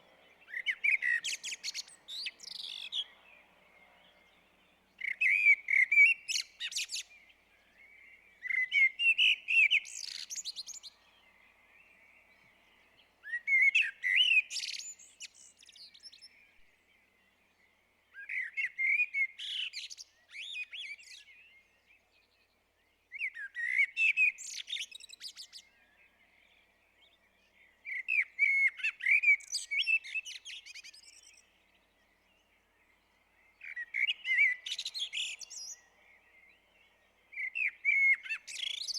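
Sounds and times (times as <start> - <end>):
blackbird singing: 0.0 - 38.9.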